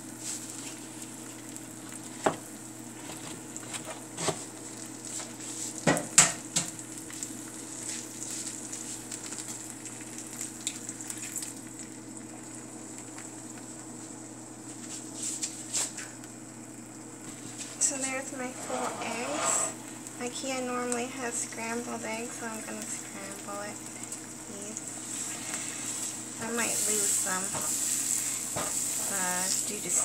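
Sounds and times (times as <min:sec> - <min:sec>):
eggs sizzling in a pan: 0:00.0 - 0:30.0.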